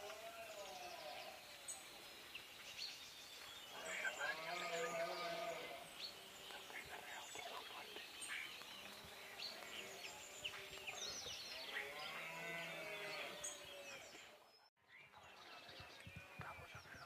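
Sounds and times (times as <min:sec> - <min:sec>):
faint outdoor background: 0:00.0 - 0:17.0
small birds chirping: 0:00.0 - 0:17.0.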